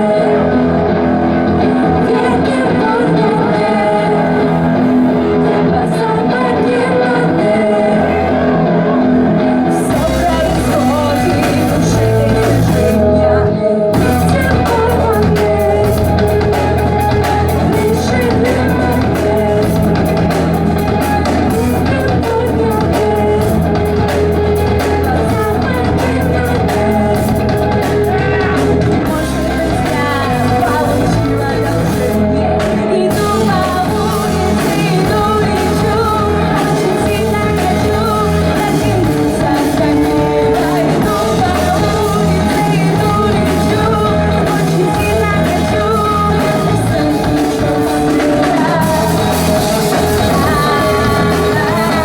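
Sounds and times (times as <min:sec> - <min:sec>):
bass guitar: 0:00.0 - 0:52.0
drums: 0:00.0 - 0:52.0
electric guitar: 0:00.0 - 0:52.0
person singing: 0:00.0 - 0:52.0.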